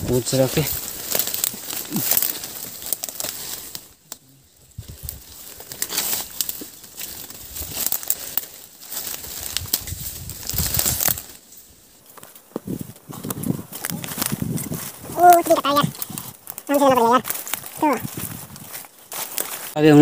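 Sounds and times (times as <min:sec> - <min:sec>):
dry leaves and twigs crackling: 0:00.0 - 0:20.0.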